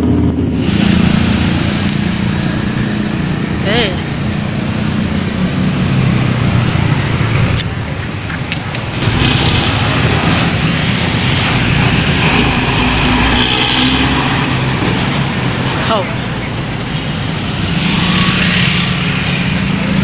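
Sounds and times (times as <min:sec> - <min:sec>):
diesel bus engine running: 0:00.0 - 0:20.0.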